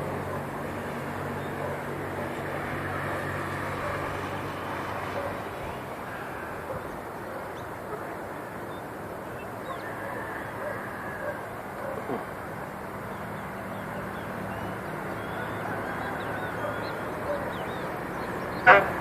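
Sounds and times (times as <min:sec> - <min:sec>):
traffic noise: 0:00.0 - 0:19.0.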